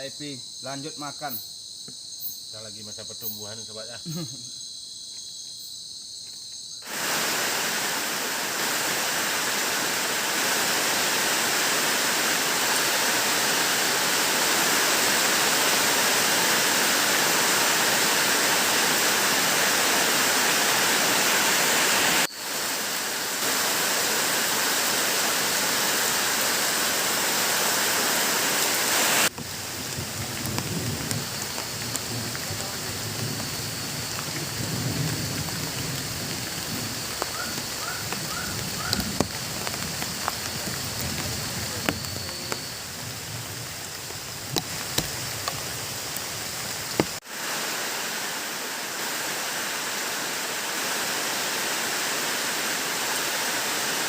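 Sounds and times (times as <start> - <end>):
crickets chirping: 0.0 - 54.0
heavy rain hissing: 6.8 - 54.0.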